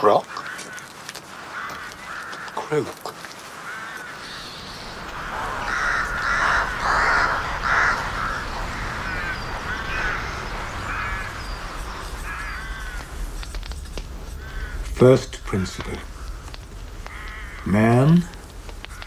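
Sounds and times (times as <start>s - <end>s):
crows cawing: 0.0s - 19.0s.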